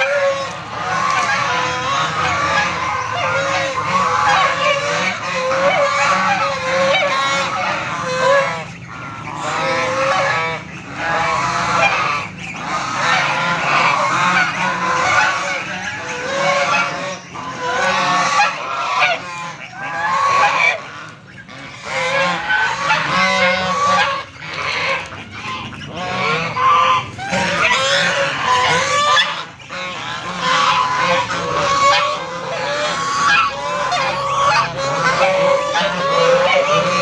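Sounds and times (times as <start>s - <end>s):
geese honking: 0.0s - 37.0s.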